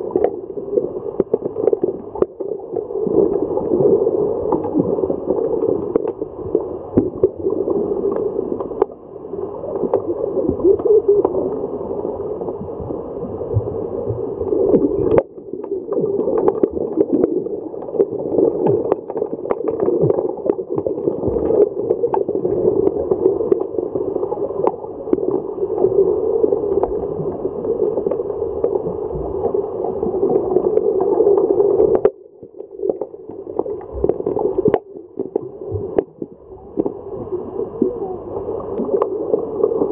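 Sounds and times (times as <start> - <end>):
muffled underwater churning: 0.0 - 39.9.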